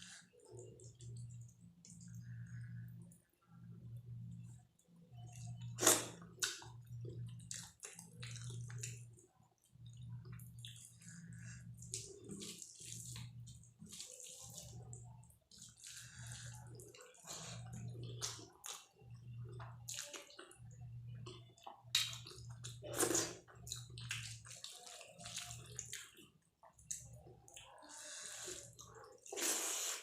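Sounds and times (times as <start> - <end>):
close chewing and mouth smacking: 5.2 - 30.0.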